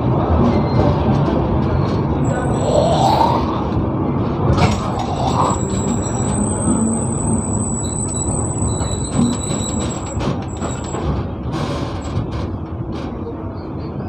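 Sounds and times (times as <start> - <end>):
train rumbling with clattering: 0.0 - 14.0.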